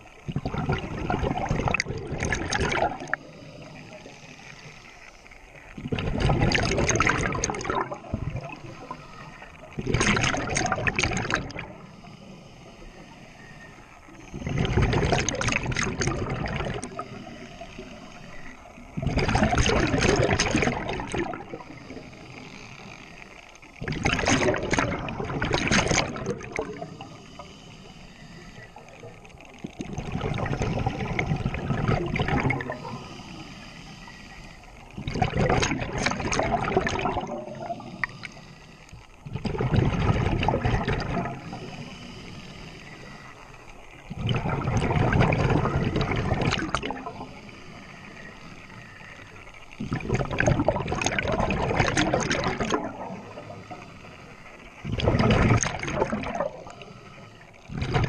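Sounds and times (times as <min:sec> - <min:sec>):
underwater breath bubbling: 0:00.0 - 0:58.0.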